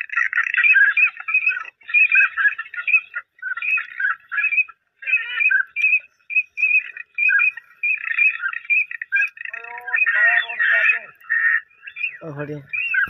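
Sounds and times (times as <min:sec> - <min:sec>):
ducks calling: 0:00.0 - 0:13.0.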